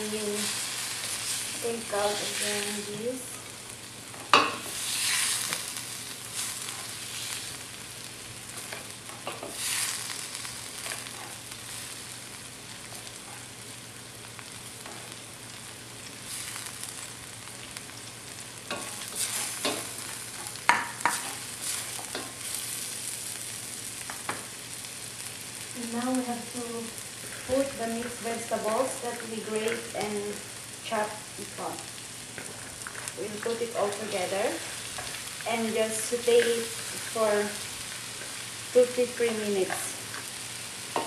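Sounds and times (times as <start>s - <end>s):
food sizzling in frying pan: 0.0s - 41.0s.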